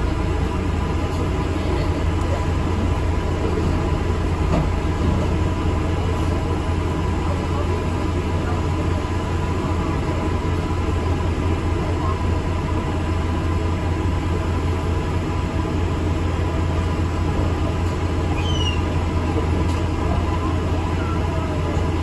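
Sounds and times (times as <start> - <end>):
bus engine hum and rumble: 0.0 - 22.0.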